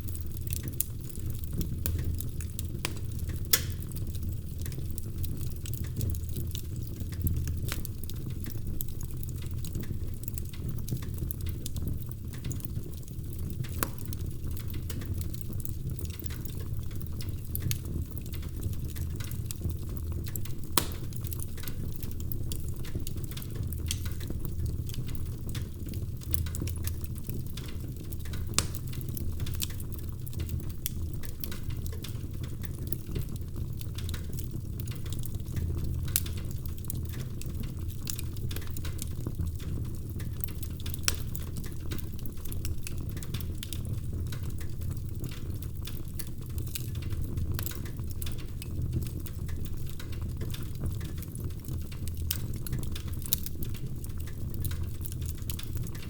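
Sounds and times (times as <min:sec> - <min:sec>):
fire popping and snapping: 0:00.0 - 0:56.0
low rumble of flame: 0:00.0 - 0:56.0.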